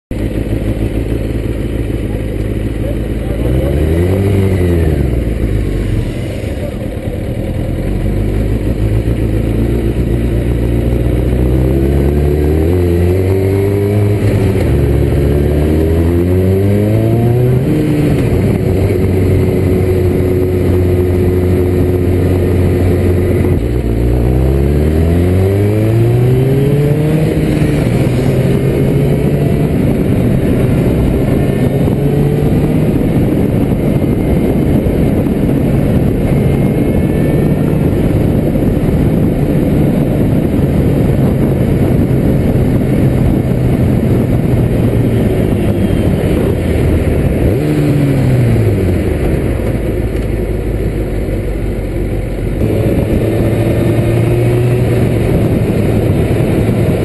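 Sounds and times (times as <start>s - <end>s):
motorcycle engine accelerating: 0.1s - 57.0s
wind noise: 3.2s - 57.0s.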